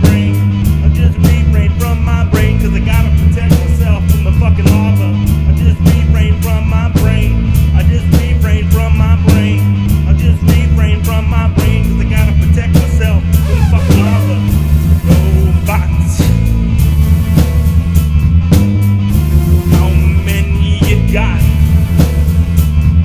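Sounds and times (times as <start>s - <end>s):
drum kit with cymbals: 0.0s - 23.0s.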